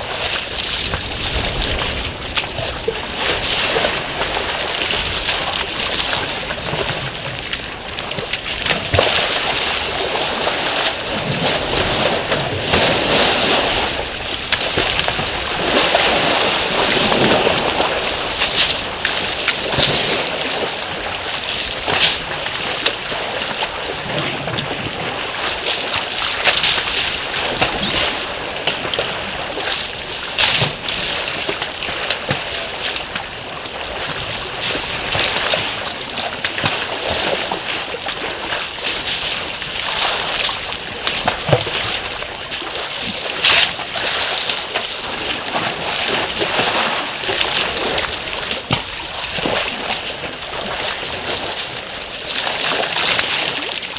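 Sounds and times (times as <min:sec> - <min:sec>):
elephants splashing in water: 0:00.0 - 0:53.9.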